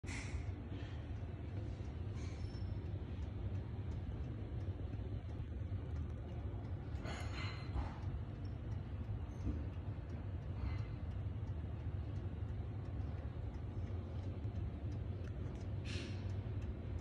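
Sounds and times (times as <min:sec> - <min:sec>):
steady low rumble: 0:00.0 - 0:17.0
faint irregular clicks: 0:00.1 - 0:17.0.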